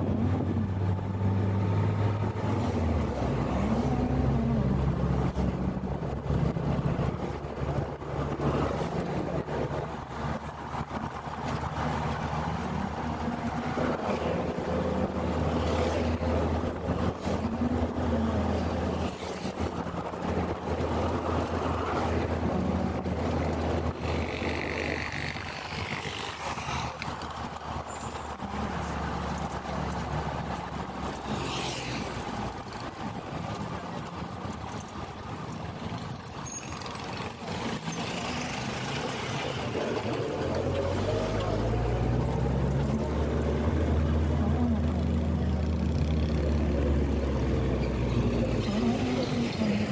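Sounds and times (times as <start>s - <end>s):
car engine hum: 0.0s - 49.9s
traffic passing: 0.0s - 49.9s.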